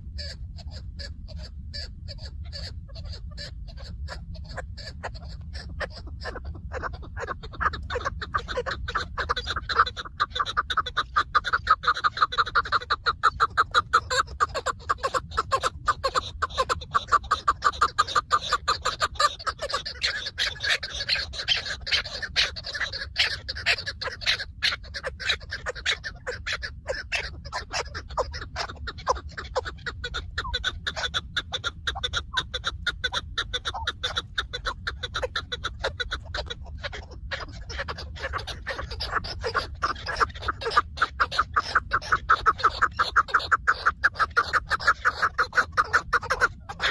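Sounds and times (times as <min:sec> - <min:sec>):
partridge clucking calls: 0:00.0 - 0:46.9.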